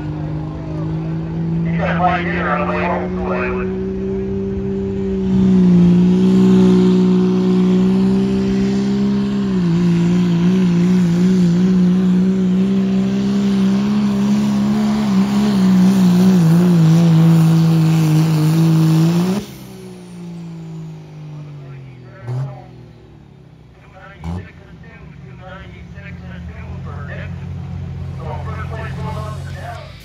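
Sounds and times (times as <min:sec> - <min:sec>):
diesel truck engine at full throttle: 0:00.0 - 0:30.0.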